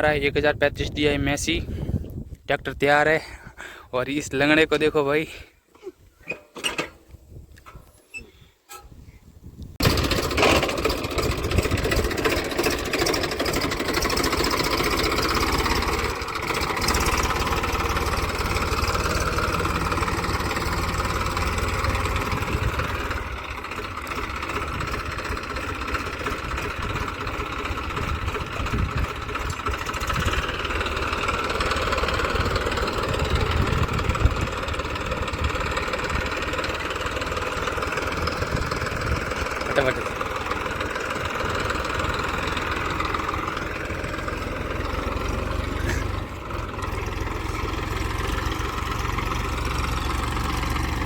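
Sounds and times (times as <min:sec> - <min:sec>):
tractor diesel engine running: 0:08.7 - 0:51.0.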